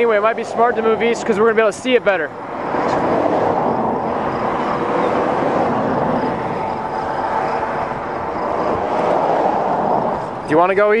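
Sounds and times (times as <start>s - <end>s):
storm wind rushing: 0.0s - 10.5s.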